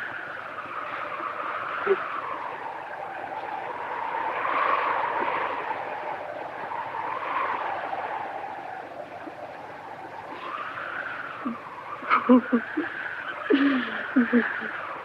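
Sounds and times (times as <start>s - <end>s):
wind howling: 0.0s - 15.0s.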